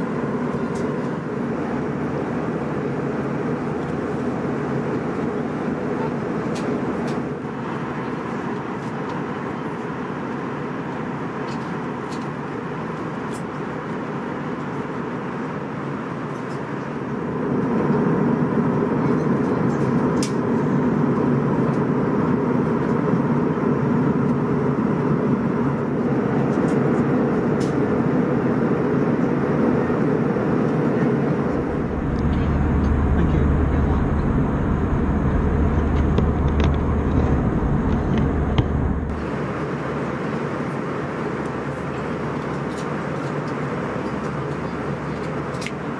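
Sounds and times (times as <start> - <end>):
aircraft cabin engine and air rush: 0.0 - 45.9.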